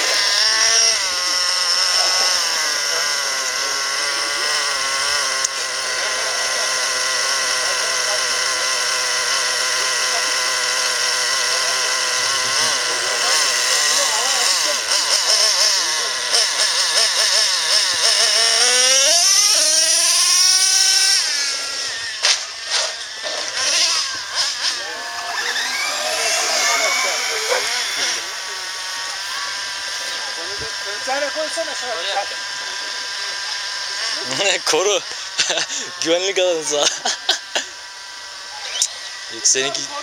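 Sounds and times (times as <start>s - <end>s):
toy car motor whining: 0.0s - 40.0s.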